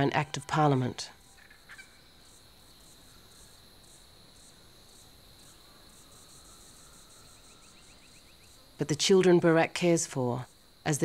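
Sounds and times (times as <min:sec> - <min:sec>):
crickets chirping in pulses: 0:00.0 - 0:11.0
steady high insect trill: 0:00.0 - 0:11.0.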